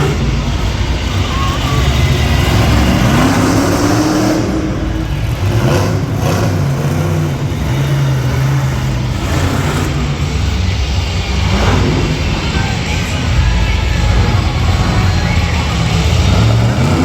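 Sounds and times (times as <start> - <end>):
truck engine revving loudly: 0.0 - 17.0.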